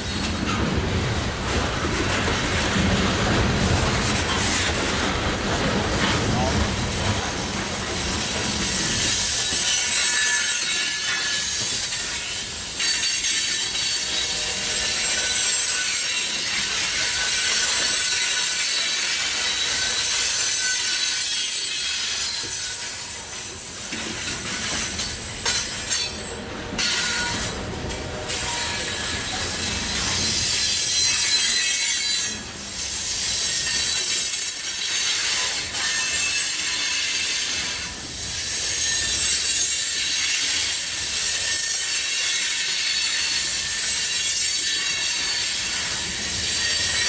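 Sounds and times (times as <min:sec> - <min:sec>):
train wheels rolling on rails: 0:00.0 - 0:47.0.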